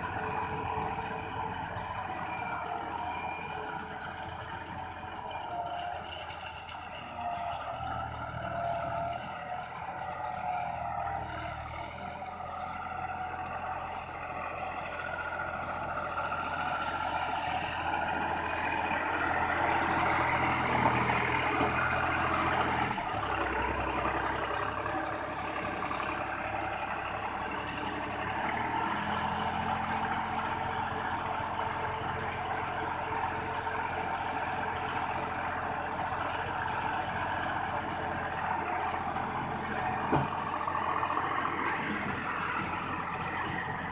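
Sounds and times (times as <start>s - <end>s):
baler whir and clatter: 0.0s - 43.9s
tractor engine running: 0.0s - 43.9s.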